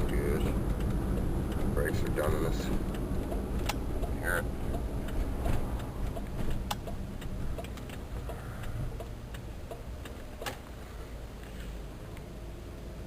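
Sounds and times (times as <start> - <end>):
worn brakes ticking: 0.0 - 10.8
road and engine rumble: 0.0 - 13.0.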